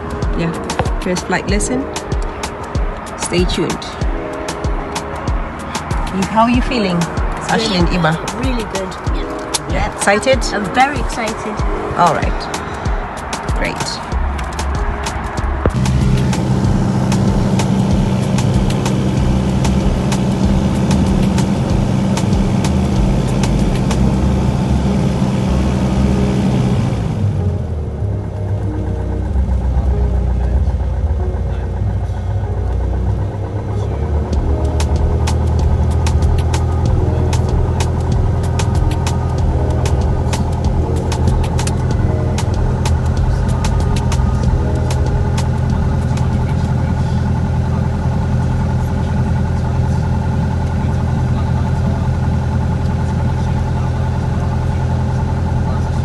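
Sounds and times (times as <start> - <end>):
aircraft piston engine running: 0.0 - 56.0.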